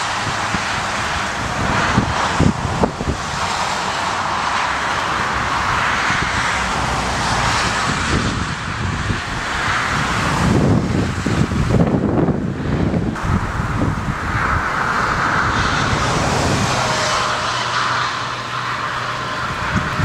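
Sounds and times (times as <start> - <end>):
jet airliner landing: 0.0 - 20.0
wind buffeting microphone: 0.0 - 20.0.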